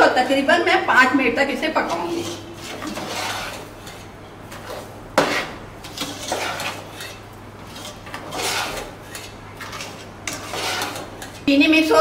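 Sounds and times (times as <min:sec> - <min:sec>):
spoon stirring and scraping pot: 0:01.5 - 0:11.8.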